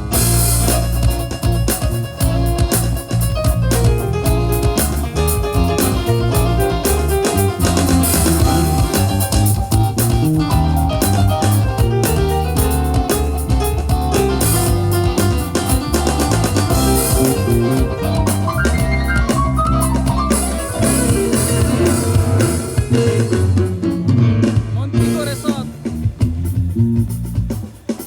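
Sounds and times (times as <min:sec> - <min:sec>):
steady bass line: 0:00.0 - 0:27.7
band music with drums guitar keyboard: 0:00.0 - 0:28.0.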